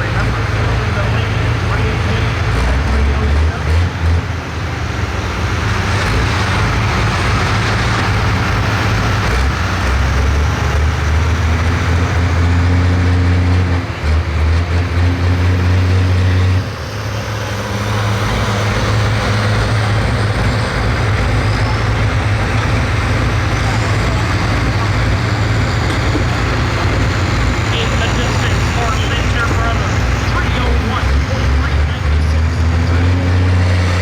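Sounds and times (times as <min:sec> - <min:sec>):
diesel engine droning under load: 0:00.0 - 0:34.0.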